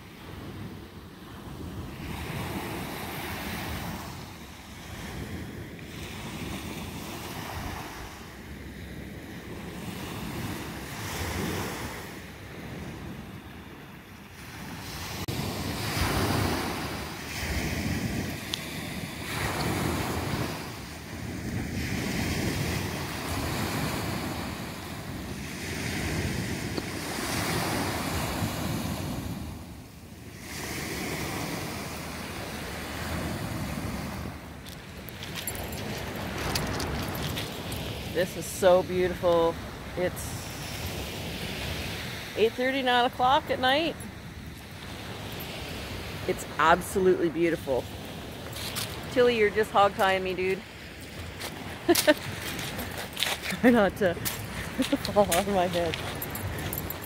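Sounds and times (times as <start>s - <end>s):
surf on a pebble beach: 0.0s - 57.0s.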